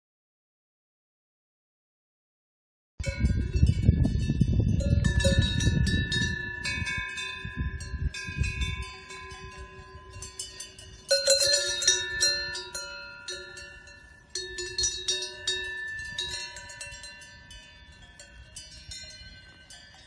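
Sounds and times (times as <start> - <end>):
cowbells clanking: 3.0 - 20.0.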